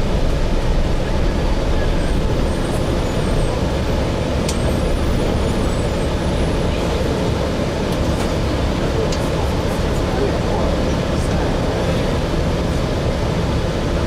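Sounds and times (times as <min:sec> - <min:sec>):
bus engine and drivetrain noise: 0:00.0 - 0:14.0.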